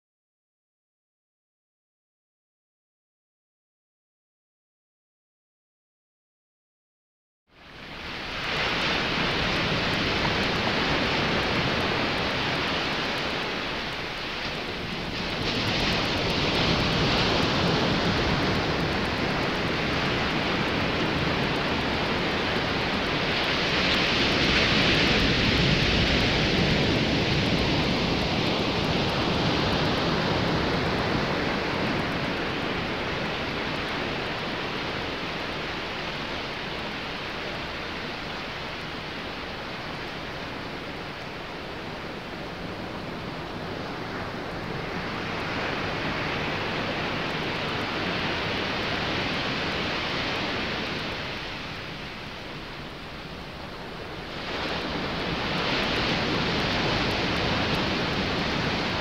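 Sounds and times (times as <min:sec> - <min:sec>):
steady rushing noise: 0:07.5 - 0:59.0.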